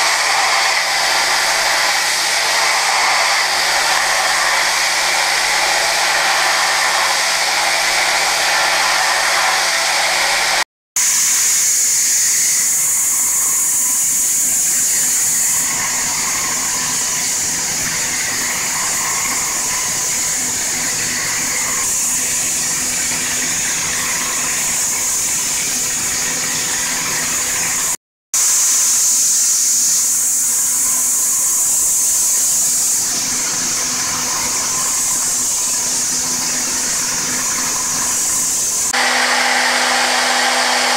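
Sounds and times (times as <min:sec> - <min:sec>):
milling machine high-pitched hiss: 0:00.0 - 0:40.9.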